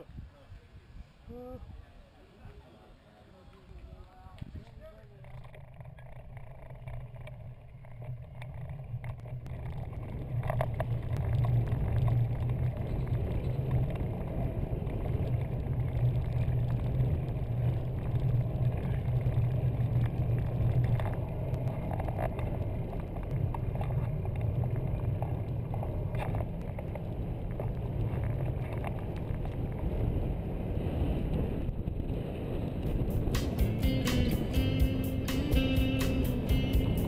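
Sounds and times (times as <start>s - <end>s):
trike rolling on pavement rumble: 0.0s - 37.0s.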